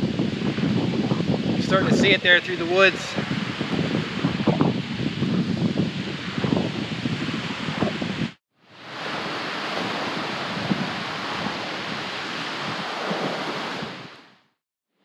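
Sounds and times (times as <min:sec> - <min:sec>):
rushing wind: 0:00.0 - 0:14.5.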